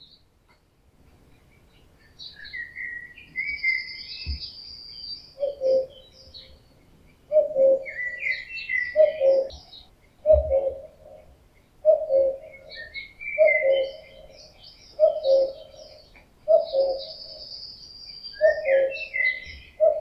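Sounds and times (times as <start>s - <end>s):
songbirds chirping: 0.0s - 20.0s
cuckoo calling: 2.1s - 20.0s.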